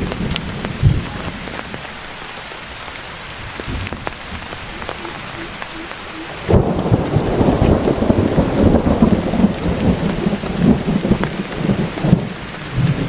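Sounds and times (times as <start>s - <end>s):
thunder rumbling: 0.0s - 2.0s, 2.8s - 13.0s
heavy rain falling: 0.0s - 13.0s.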